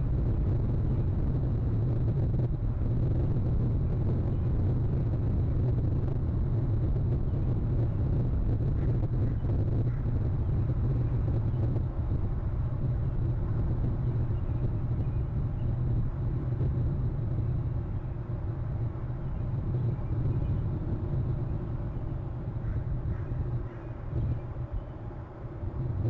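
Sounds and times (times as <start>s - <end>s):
low outdoor background rumble: 0.0s - 26.0s.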